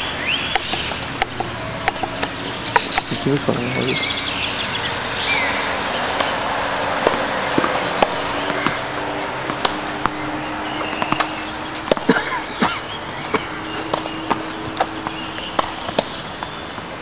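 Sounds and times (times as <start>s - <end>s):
tennis ball bounces: 0.0s - 3.7s, 6.0s - 16.9s.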